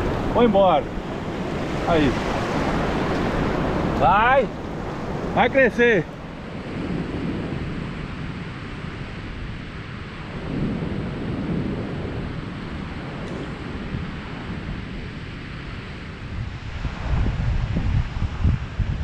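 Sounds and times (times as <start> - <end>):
surf washing on beach: 0.0 - 19.0
wind buffeting microphone: 0.0 - 19.0.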